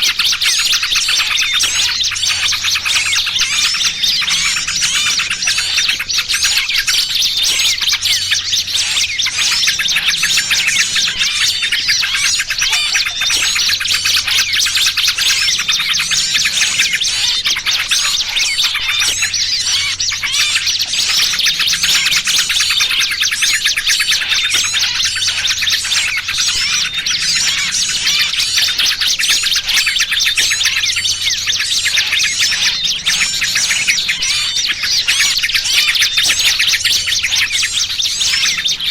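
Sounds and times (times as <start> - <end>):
bird distress calls: 0.0 - 38.9
small birds chirping: 0.0 - 38.9.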